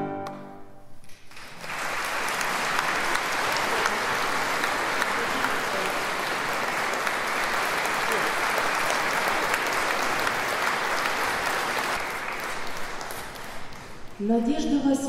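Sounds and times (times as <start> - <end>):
audience applauding: 1.0 - 14.3.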